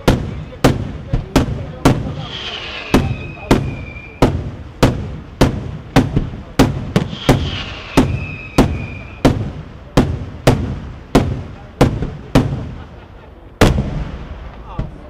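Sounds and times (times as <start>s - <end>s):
fireworks bursting with echo: 0.0s - 15.0s.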